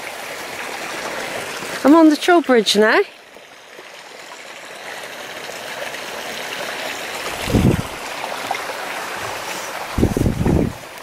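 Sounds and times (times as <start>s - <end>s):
stream babbling over stones: 0.0s - 11.0s.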